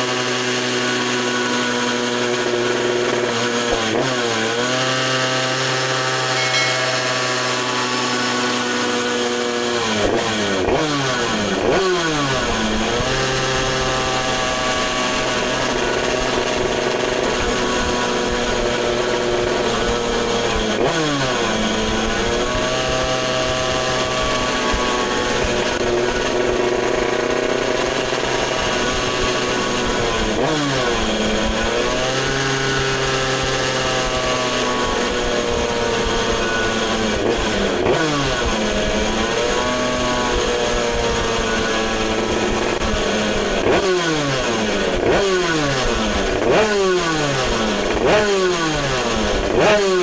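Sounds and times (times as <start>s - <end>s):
moped engine revving: 0.0s - 50.0s.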